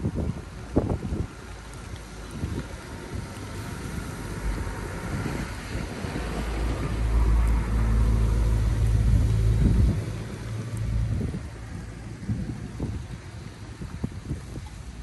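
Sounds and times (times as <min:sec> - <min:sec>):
wind rumble on microphone: 0:00.0 - 0:15.0
engine humming: 0:00.4 - 0:15.0.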